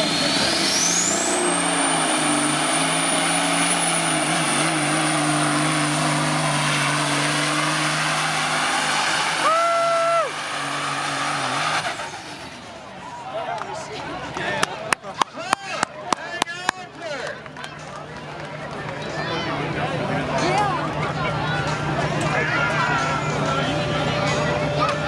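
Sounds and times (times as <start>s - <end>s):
diesel engine running hard: 0.0s - 13.3s, 17.7s - 25.0s.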